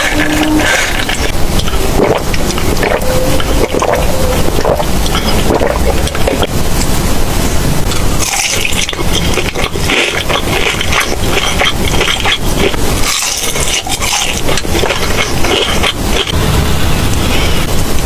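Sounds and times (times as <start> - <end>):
chewing and crunching food: 0.0 - 7.0, 7.8 - 16.4.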